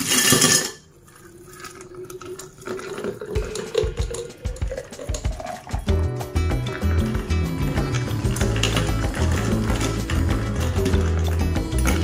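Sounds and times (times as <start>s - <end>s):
ice cubes clattering into jug: 0.0s - 5.8s, 6.6s - 12.0s
juice pouring and glugging: 0.8s - 12.0s.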